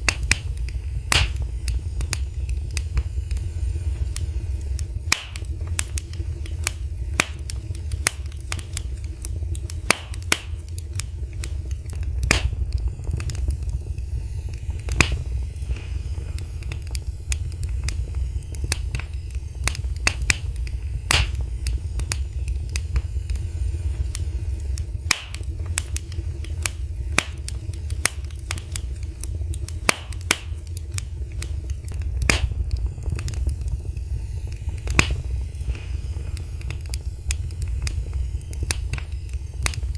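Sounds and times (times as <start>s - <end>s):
low steady rumble: 0.0s - 39.9s
wood fire crackling and popping: 0.0s - 39.9s.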